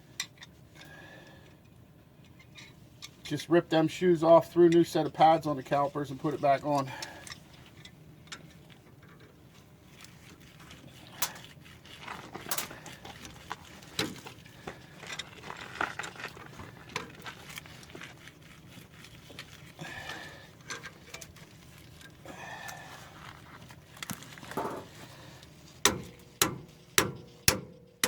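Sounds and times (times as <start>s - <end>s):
hand tools clicking and scraping: 0.1s - 28.0s.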